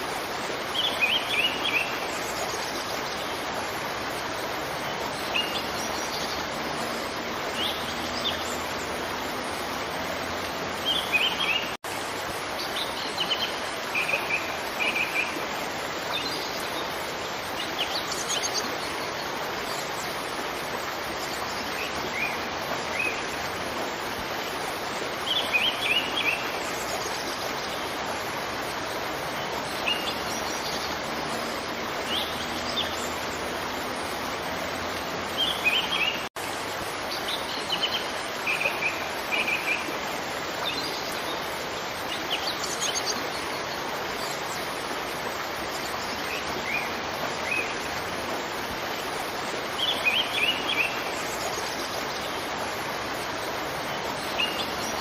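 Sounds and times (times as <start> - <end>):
songbirds chirping: 0.0 - 55.0
waterfall rushing: 0.0 - 55.0.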